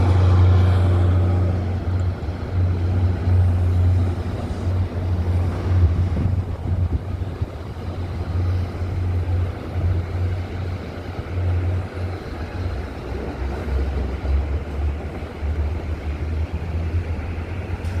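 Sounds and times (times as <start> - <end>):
diesel engine drone: 0.0 - 18.0
train rumble: 0.0 - 18.0.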